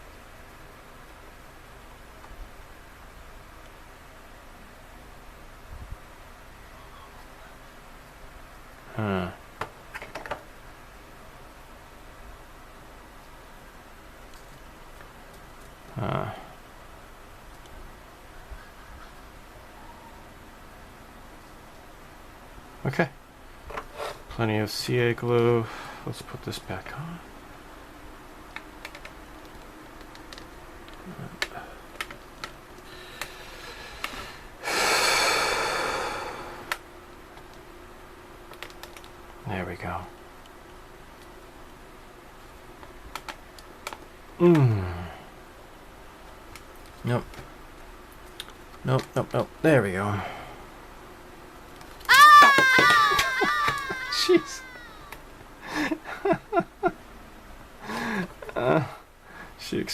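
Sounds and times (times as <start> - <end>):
faint room tone hiss: 0.0 - 59.9.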